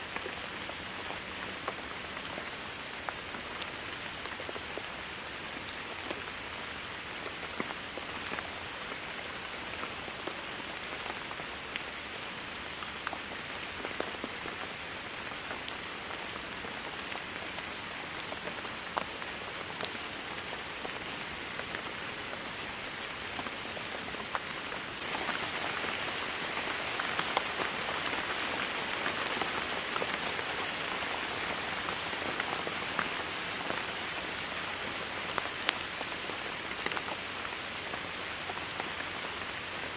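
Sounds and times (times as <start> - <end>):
raindrops ticking on surface: 0.0 - 39.9
steady rainfall hiss: 0.0 - 39.9.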